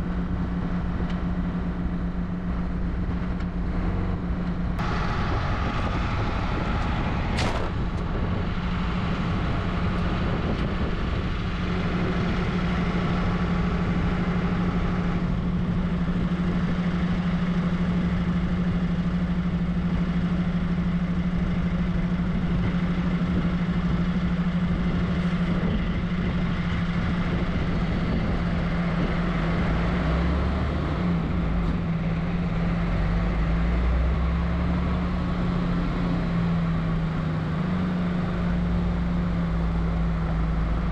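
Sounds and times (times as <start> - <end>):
deep rumble: 0.0 - 40.9
diesel truck engine droning: 0.0 - 40.9.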